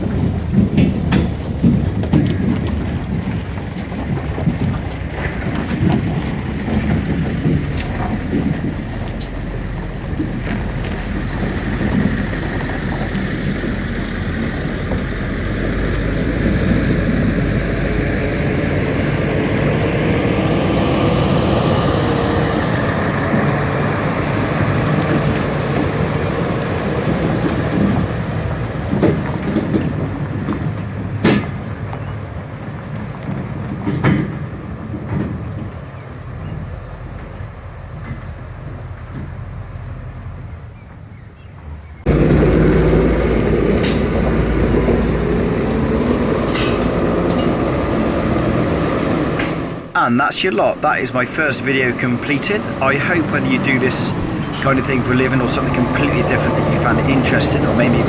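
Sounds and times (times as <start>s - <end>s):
heavy diesel engine running: 0.0s - 40.6s, 42.0s - 58.0s.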